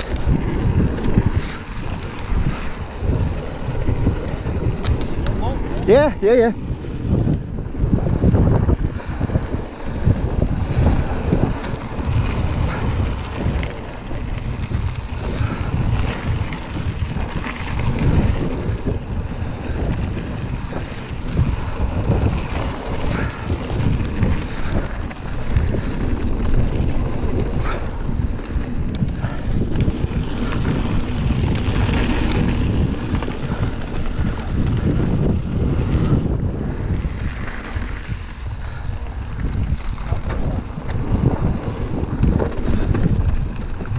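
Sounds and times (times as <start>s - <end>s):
bike knocking and rattling: 0.0s - 43.9s
tyres rumbling on trail: 0.0s - 43.9s
wind buffeting microphone: 0.0s - 43.9s.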